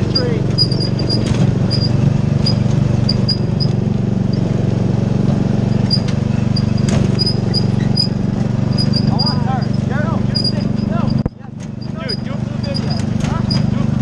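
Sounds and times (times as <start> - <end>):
high-pitched squeaks: 0.0 - 4.5, 5.8 - 13.8
lawn mower engine running: 0.0 - 14.0.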